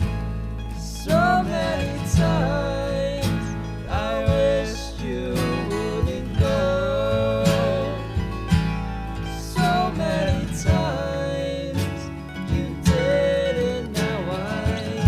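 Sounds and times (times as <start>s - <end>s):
country-folk band instrumental: 0.0s - 15.0s.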